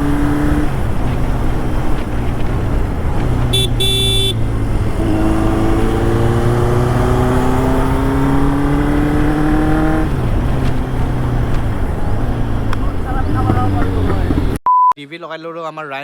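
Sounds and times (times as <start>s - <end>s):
motorcycle engine accelerating: 0.0s - 14.6s.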